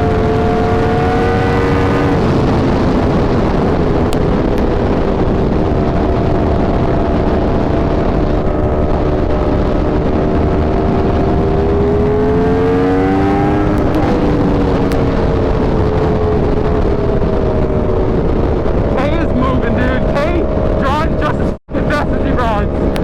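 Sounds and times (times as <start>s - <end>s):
motorbike engines cruising: 0.0s - 23.0s
wind rush on microphone: 0.0s - 23.0s.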